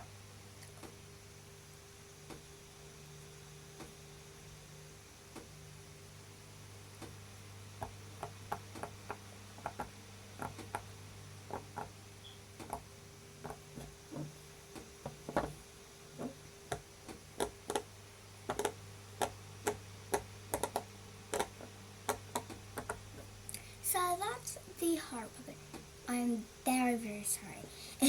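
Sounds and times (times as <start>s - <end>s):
room fan humming: 0.0s - 28.0s.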